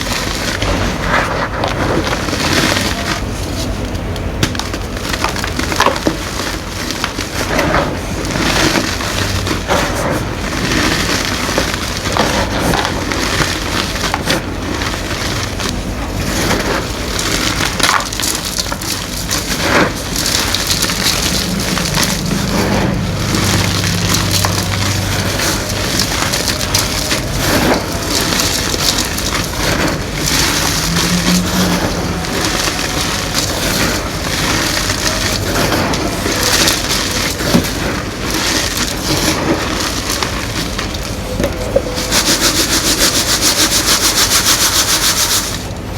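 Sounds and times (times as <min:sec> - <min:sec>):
chalk crunching and crumbling: 0:00.0 - 0:45.7.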